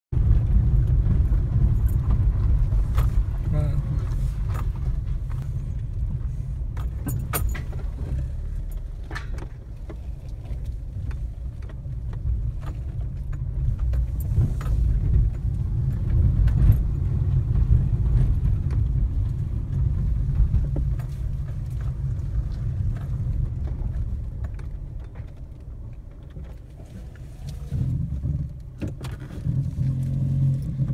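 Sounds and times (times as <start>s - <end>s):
engine and tyres rumbling: 0.1s - 30.9s
small clicks and rattles: 0.5s - 30.9s.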